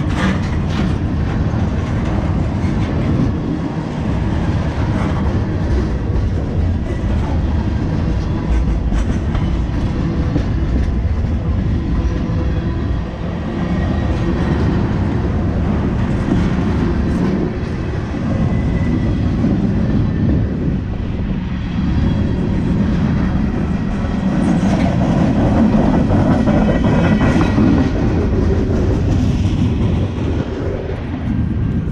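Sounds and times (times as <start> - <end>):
freight train wheels clattering: 0.0 - 20.8, 22.1 - 31.9.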